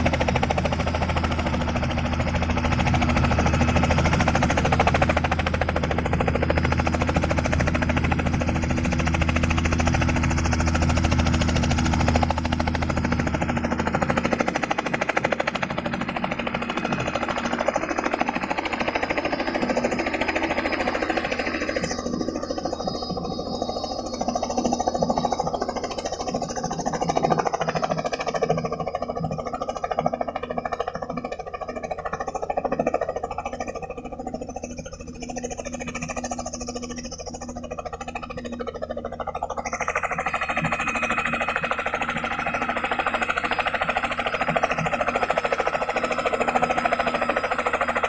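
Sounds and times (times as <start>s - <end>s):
helicopter rotor chopping: 0.0s - 48.0s
helicopter whine: 0.0s - 48.0s.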